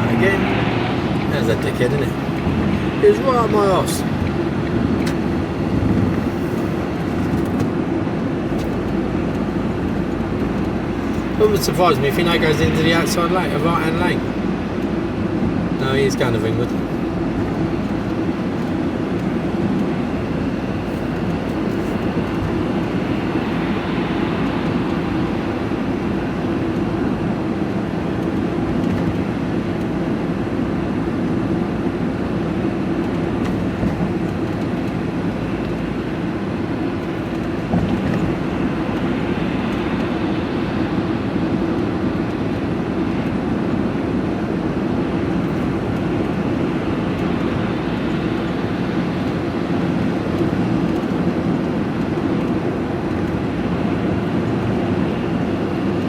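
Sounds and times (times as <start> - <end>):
vehicle engine and tyre drone: 0.0 - 56.0.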